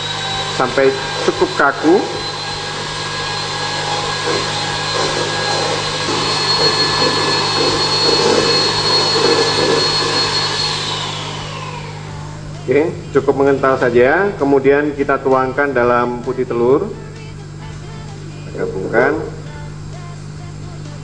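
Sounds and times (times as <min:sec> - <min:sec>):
electric mixer whirring: 0:00.0 - 0:21.0.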